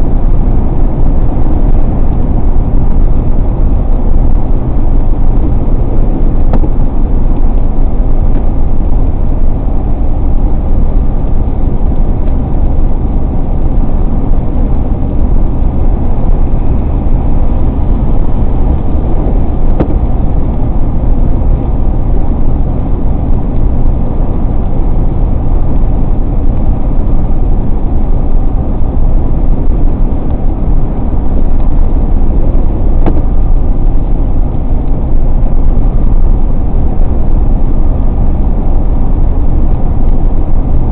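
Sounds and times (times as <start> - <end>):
car engine: 0.0 - 40.9.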